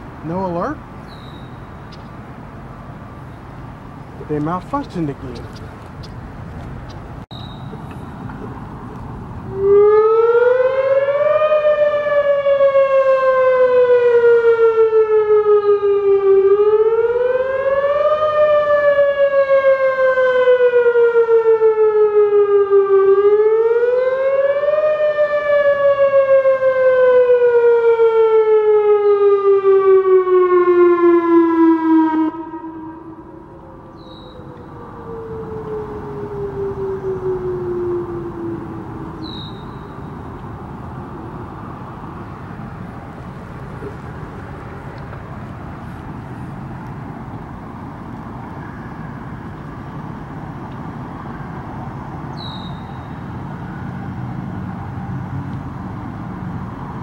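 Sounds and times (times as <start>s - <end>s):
warning siren wailing: 9.4s - 57.0s.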